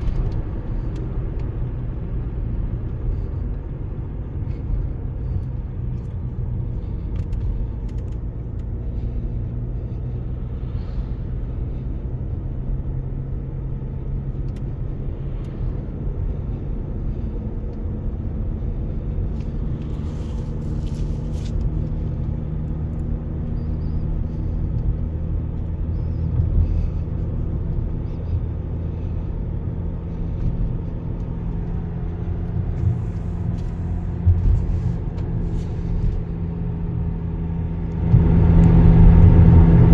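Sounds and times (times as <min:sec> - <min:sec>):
car engine hum: 0:00.0 - 0:39.9
low road rumble: 0:00.0 - 0:39.9.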